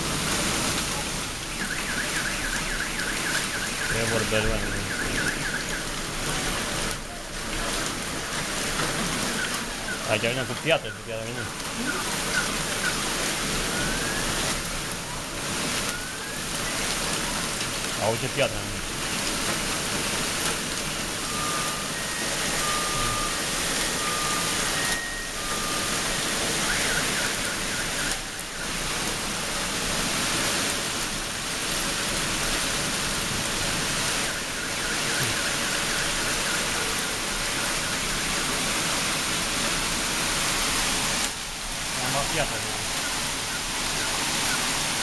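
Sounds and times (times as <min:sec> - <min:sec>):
heavy rain and hail falling: 0:00.0 - 0:45.0.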